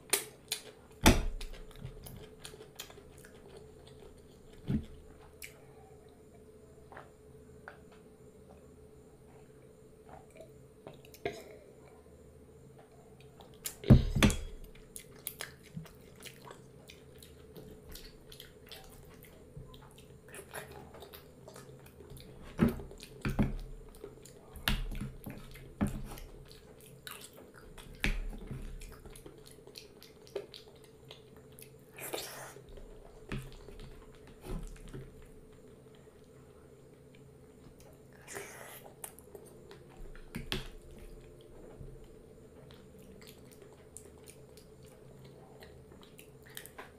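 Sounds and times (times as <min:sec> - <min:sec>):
chewing: 0:00.0 - 0:05.8, 0:14.6 - 0:46.9.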